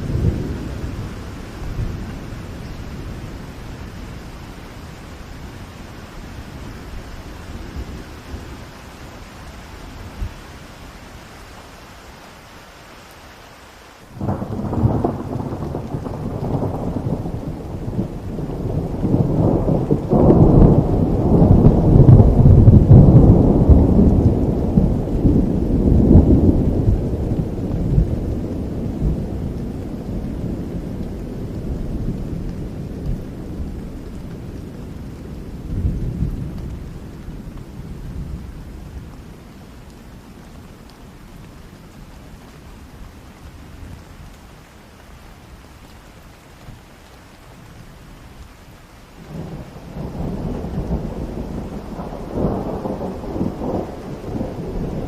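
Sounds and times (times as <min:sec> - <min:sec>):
thunder rumbling: 0:00.0 - 0:09.0, 0:14.1 - 0:43.1, 0:48.7 - 0:55.0
steady rain: 0:00.0 - 0:55.0.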